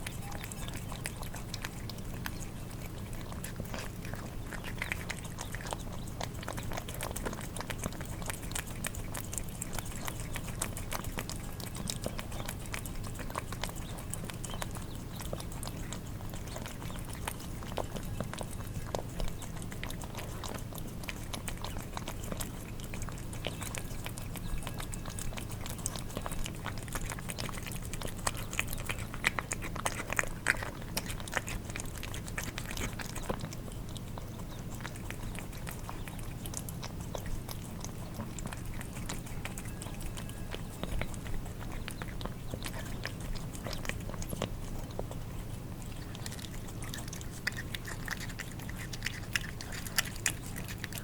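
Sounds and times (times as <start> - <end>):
cats chewing wet food: 0.0 - 51.0.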